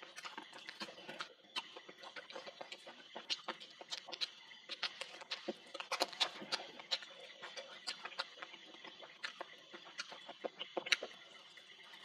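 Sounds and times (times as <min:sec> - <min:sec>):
chewing and smacking meat: 0:00.0 - 0:12.0.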